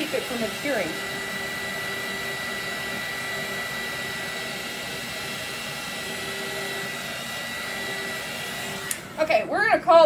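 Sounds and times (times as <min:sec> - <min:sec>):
heat tool blowing air: 0:00.0 - 0:10.0.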